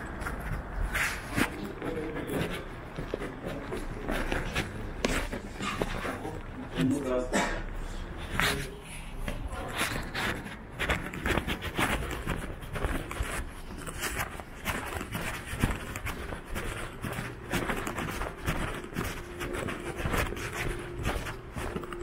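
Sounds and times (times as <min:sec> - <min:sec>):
footsteps on hard surface: 0:00.0 - 0:07.0, 0:07.6 - 0:22.0
city background noise: 0:00.0 - 0:22.0.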